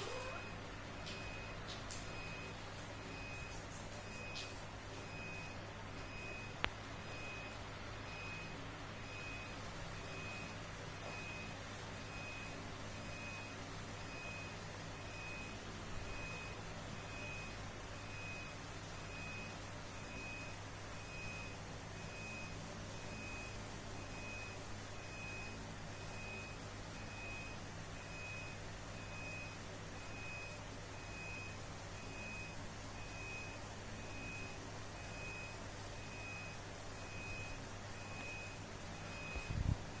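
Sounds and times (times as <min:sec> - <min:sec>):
reversing alarm beeping: 0:00.0 - 0:04.4, 0:05.0 - 0:39.7
steady low hum: 0:00.0 - 0:40.0.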